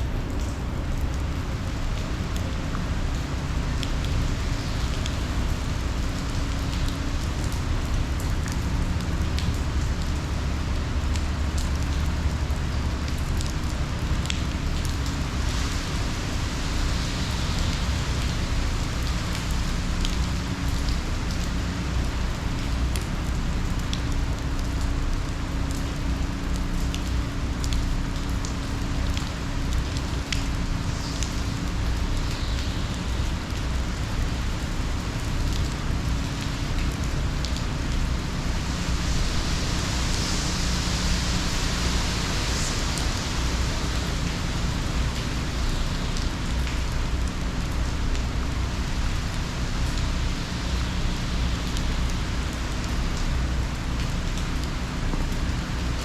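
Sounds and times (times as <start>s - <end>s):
heavy rain falling: 0.0s - 56.0s
raindrops ticking: 0.0s - 56.0s.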